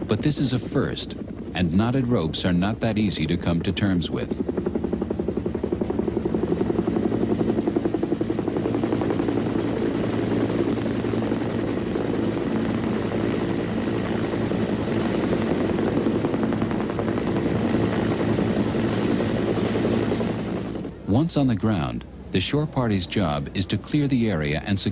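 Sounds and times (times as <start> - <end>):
helicopter rotor and engine drone: 0.0 - 24.9.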